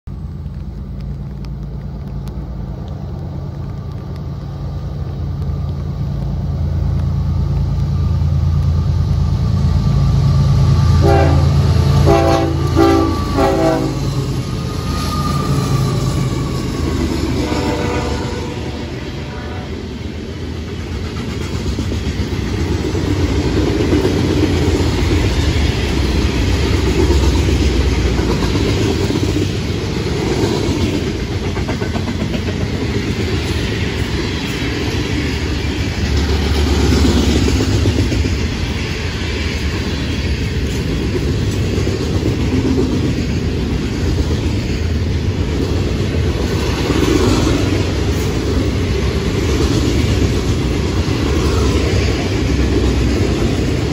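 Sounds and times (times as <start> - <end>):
train wheels rumbling on rails: 0.1 - 53.9.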